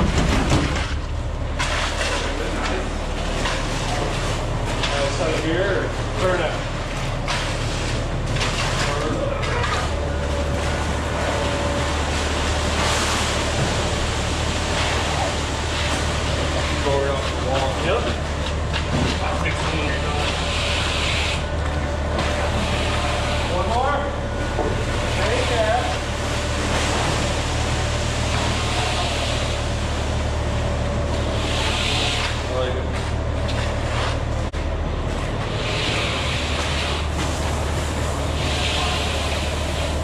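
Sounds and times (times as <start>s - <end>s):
concrete mixer rushing: 0.0s - 40.0s
truck engine drone: 0.0s - 40.0s.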